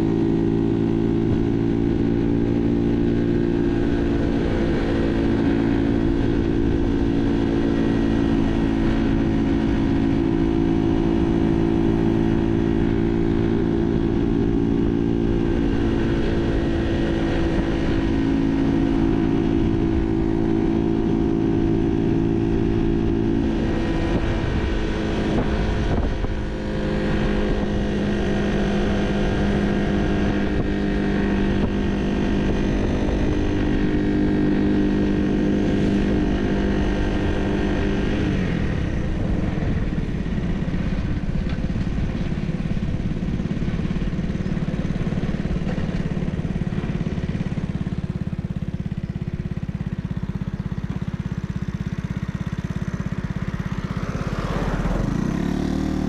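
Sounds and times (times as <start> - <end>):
moped engine running: 0.0 - 56.0.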